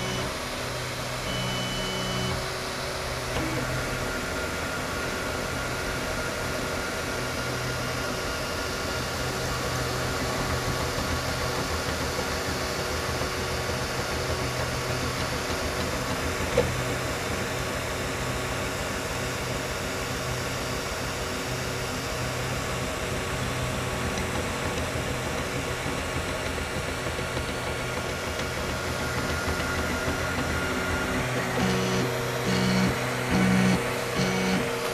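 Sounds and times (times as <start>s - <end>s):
cooling fans whirring: 0.0s - 34.9s
stepper motors humming and whining: 0.0s - 34.9s.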